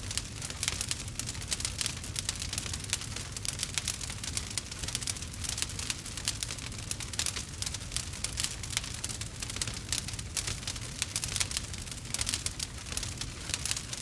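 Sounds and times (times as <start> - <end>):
burning logs crackling: 0.0 - 14.0
low rumble of fire: 0.0 - 14.0.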